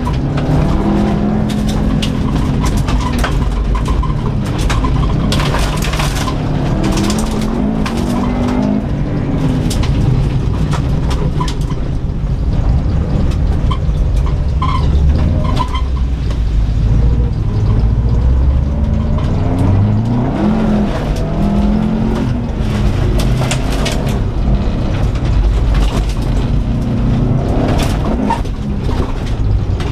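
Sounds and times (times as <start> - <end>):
car engine revving: 0.0 - 29.9
sharp ticks and knocks: 0.0 - 29.9.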